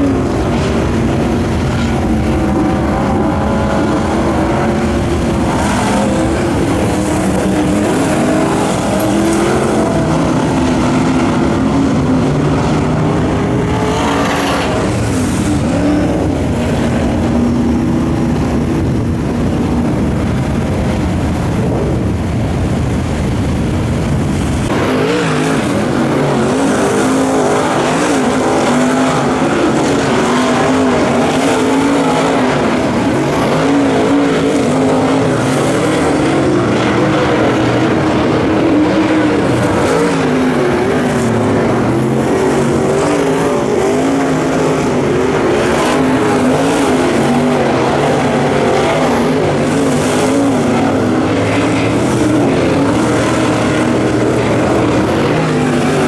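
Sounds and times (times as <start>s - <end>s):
race car engines passing: 0.0s - 56.0s.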